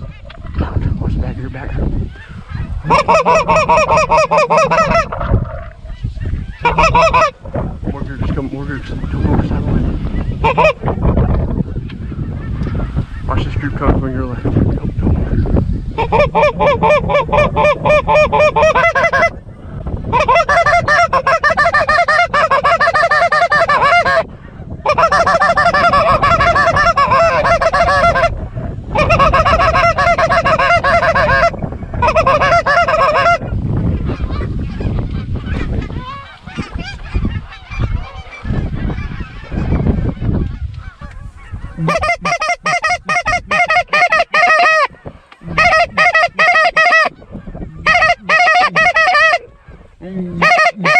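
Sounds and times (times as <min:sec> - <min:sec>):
goose honking and clucking: 0:00.0 - 0:13.9, 0:15.1 - 0:50.9.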